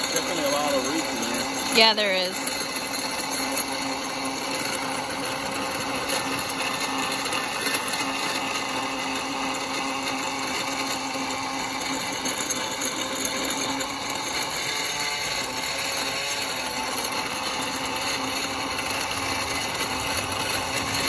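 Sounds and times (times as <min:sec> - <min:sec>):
electric tiller motor humming: 0:00.0 - 0:21.0
tines churning soil: 0:00.0 - 0:21.0.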